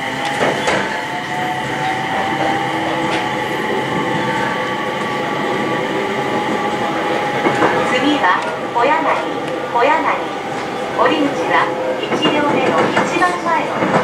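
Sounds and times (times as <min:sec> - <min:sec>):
train whine climbing in pitch: 0:00.0 - 0:13.2
train rail rumble and hiss: 0:00.0 - 0:14.0.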